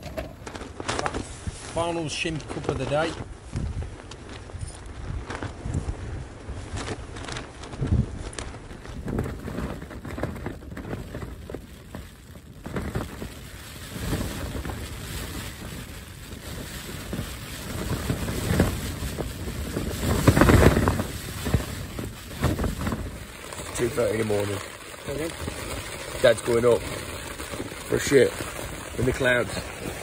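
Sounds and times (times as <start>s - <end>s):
tent fabric flapping in wind: 0.0s - 30.0s
wind rumble on microphone: 0.0s - 30.0s.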